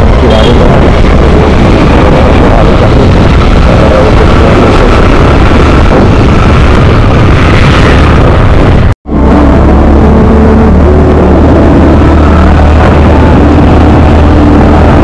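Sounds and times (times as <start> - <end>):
engine noise: 0.0 - 15.0
road noise: 0.0 - 15.0
wind buffeting microphone: 0.0 - 15.0.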